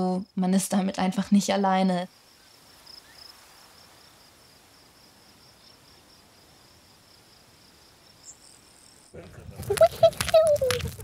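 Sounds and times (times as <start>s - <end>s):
soft outdoor hiss: 0.0s - 11.0s
crickets chirping: 0.2s - 11.0s.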